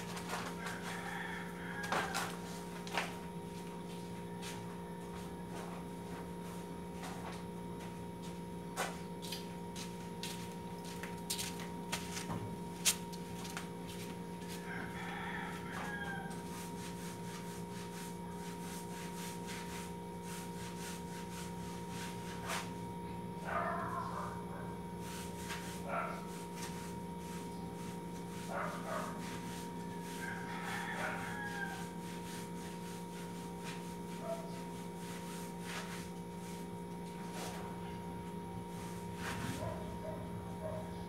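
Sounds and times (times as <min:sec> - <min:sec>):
steady hum: 0:00.0 - 0:41.0.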